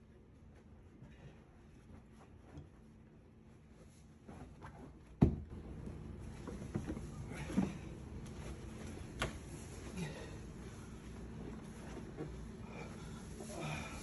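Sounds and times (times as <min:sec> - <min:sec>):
rustling and shuffling in armchair: 0:00.0 - 0:14.0.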